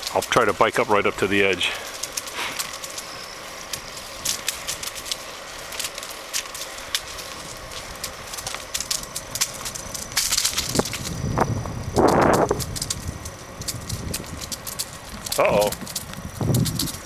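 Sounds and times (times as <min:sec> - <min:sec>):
bicycle tyre hiss: 0:00.0 - 0:17.0
bike rattling: 0:00.0 - 0:17.0
grit crackling under tyres: 0:00.0 - 0:17.0.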